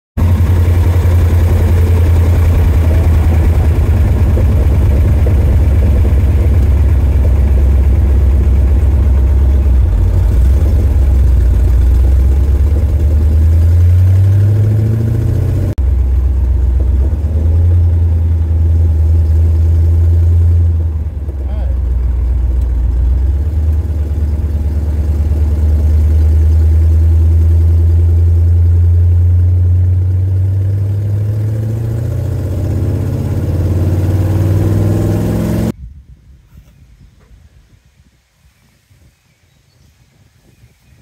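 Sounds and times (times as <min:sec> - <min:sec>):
car engine drone: 0:00.2 - 0:35.8.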